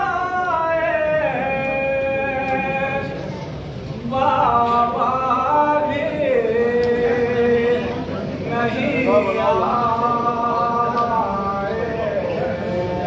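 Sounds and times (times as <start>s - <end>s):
man chanting a lament: 0.0s - 3.2s, 4.0s - 13.0s.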